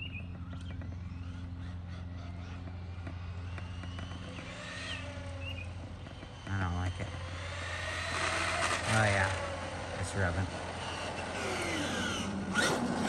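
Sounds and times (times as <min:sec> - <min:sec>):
rc truck electric motor whine: 0:00.0 - 0:13.0
steady low hum: 0:00.0 - 0:13.0.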